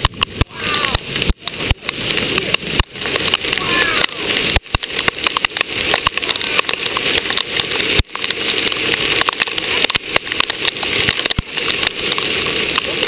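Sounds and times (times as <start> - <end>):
hail ticking and knocking: 0.0 - 13.0
rain and hail rushing: 0.0 - 13.0.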